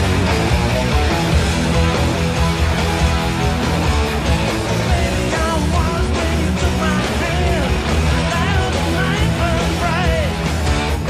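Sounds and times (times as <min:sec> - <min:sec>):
bending guitar melody: 0:00.0 - 0:11.0
hard rock band playing live: 0:00.0 - 0:11.0.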